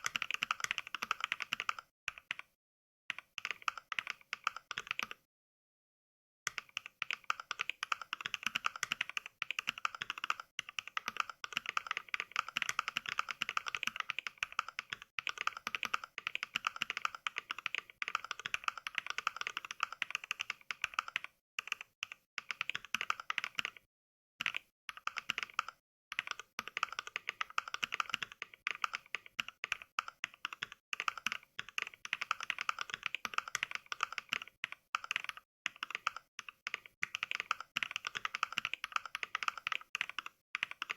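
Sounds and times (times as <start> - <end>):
fast mechanical keyboard typing: 0.0 - 2.5, 3.1 - 5.2, 6.5 - 40.9.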